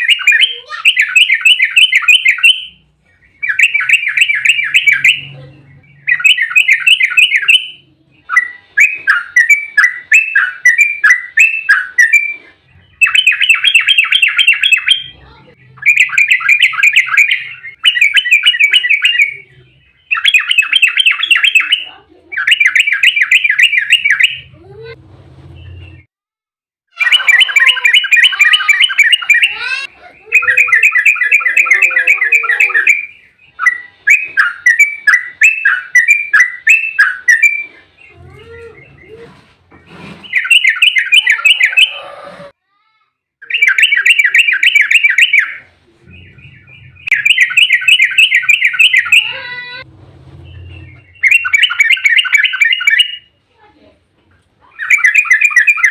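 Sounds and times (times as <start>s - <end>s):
bird chattering song: 0.0s - 24.9s, 27.0s - 39.4s, 40.2s - 42.1s, 43.4s - 49.8s, 50.4s - 53.4s, 54.6s - 55.9s.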